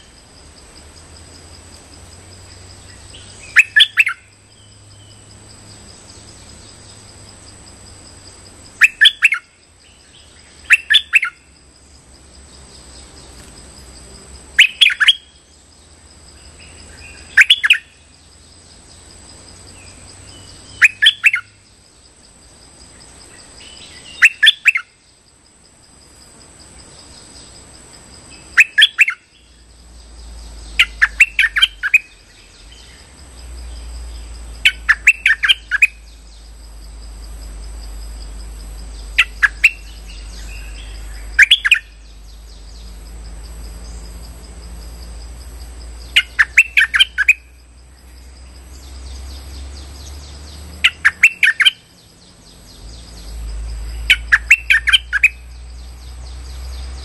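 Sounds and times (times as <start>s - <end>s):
bird chirping: 0.0s - 11.5s, 14.5s - 25.2s, 28.3s - 57.0s
high insect drone: 0.0s - 57.0s.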